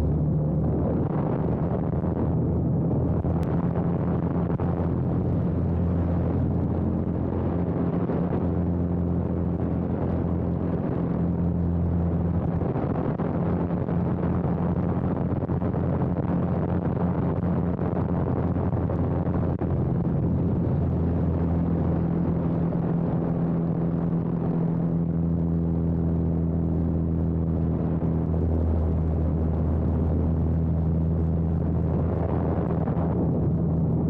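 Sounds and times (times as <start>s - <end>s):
propeller plane engine droning: 0.0s - 34.0s.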